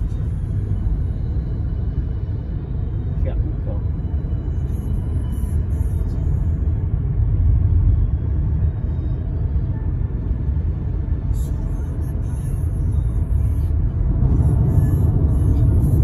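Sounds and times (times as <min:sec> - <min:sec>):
car interior road and engine rumble: 0:00.0 - 0:16.0.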